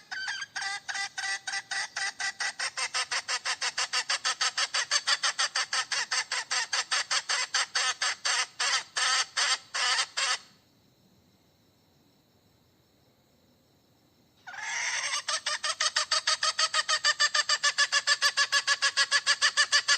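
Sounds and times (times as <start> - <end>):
hen cackling: 0.0 - 10.5, 14.4 - 19.9.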